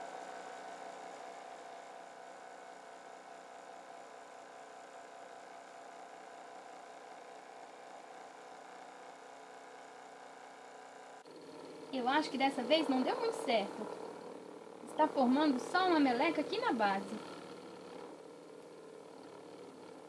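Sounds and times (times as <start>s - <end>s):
cotton candy machine motor humming: 0.0s - 20.0s.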